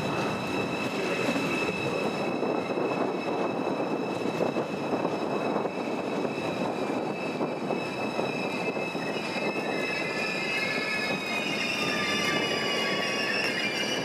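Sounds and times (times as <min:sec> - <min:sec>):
high thin squealing tones: 0:00.0 - 0:14.0
train wheels rumbling on rail: 0:00.0 - 0:14.0.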